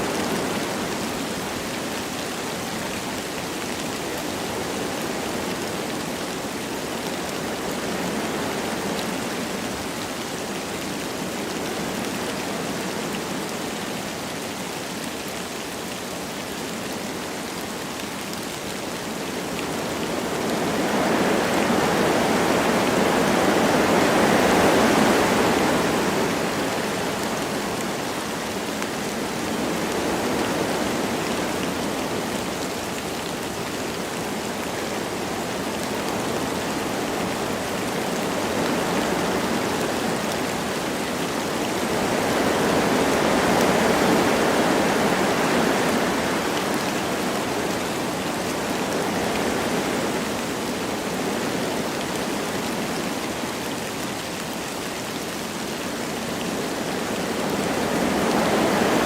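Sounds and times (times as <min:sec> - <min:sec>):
light rain falling: 0:00.0 - 0:59.0
wind rushing through trees: 0:00.0 - 0:59.0.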